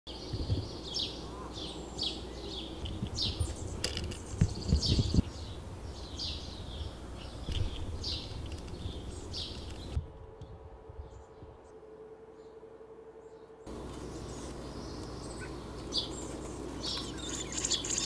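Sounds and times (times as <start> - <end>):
low outdoor rumble: 0.1 - 18.0
songbird chirping: 0.1 - 18.0.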